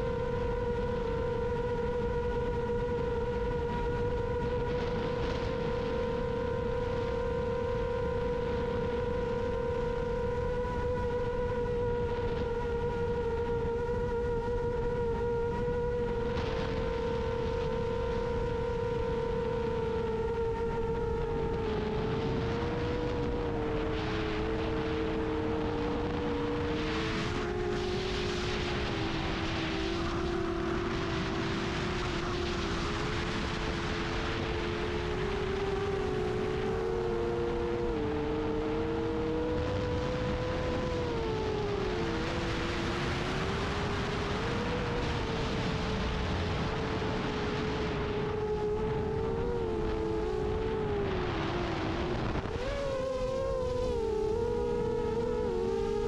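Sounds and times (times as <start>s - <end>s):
drone motors whining: 0.0s - 56.0s
wind noise: 0.0s - 56.0s.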